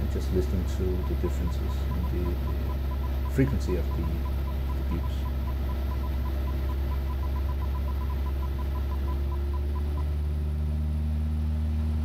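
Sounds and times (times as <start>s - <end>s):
short warning beeps: 0.0s - 10.0s
aircraft engine drone: 0.0s - 10.6s.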